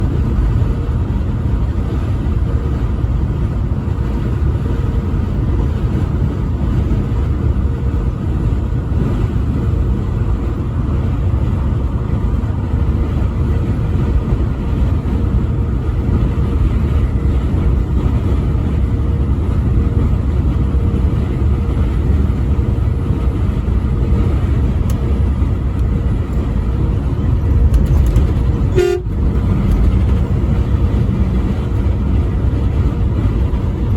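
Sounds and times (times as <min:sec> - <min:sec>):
vehicle road and engine rumble: 0:00.0 - 0:33.9.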